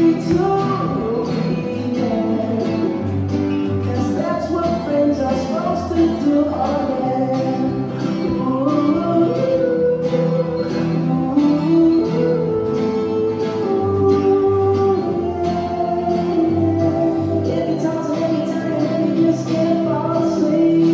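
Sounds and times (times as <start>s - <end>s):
acoustic guitars strumming: 0.0s - 20.9s
person singing: 0.0s - 20.9s.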